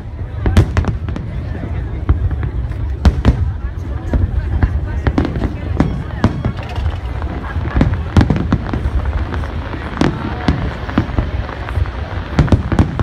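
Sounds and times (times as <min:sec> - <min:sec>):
firework bangs and crackles: 0:00.0 - 0:13.0.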